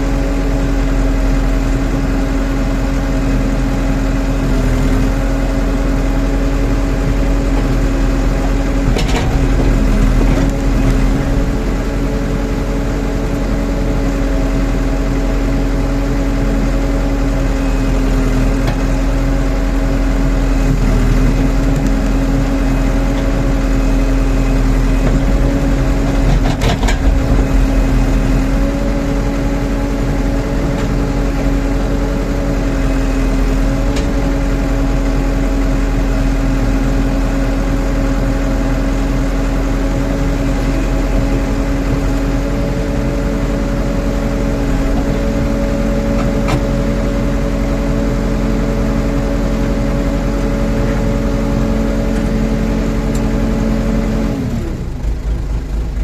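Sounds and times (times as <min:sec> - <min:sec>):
backhoe diesel engine revving: 0:00.0 - 0:56.0.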